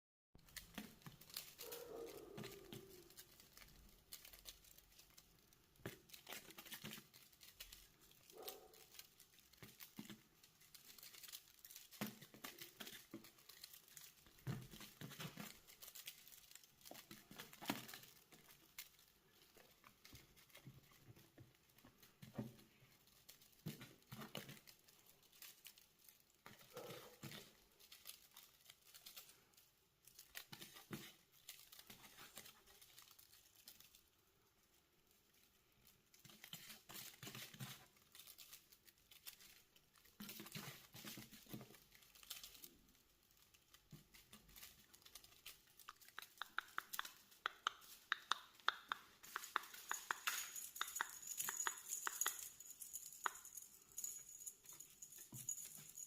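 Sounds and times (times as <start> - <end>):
kitten rustling and scratching: 0.4 - 56.0.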